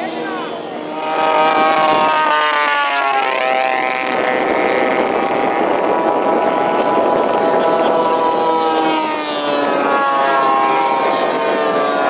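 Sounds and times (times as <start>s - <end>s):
model airplane engines droning: 0.0s - 12.0s.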